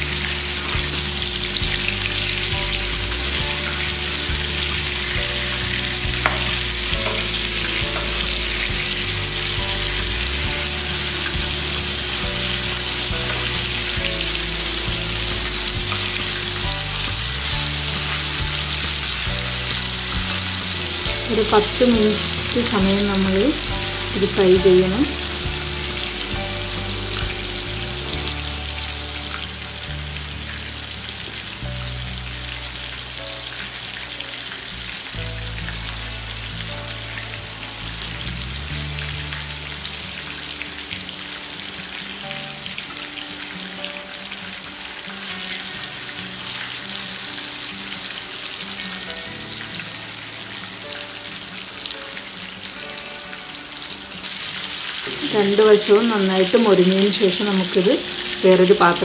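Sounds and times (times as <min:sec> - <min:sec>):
chicken frying in hot oil: 0:00.0 - 0:59.0
soft background music: 0:00.0 - 0:59.0.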